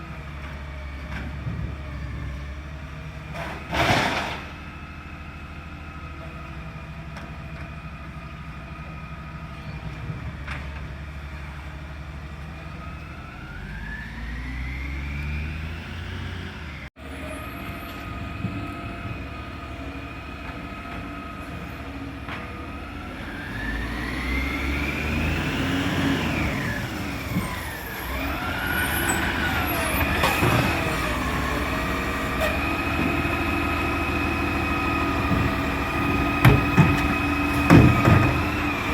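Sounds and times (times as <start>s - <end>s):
garbage truck engine idling and revving: 0.0s - 38.9s.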